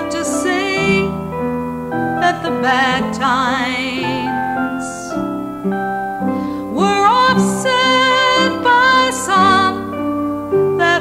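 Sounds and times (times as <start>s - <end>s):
person singing slow song: 0.0s - 5.6s, 6.2s - 11.0s
piano accompaniment: 0.0s - 11.0s.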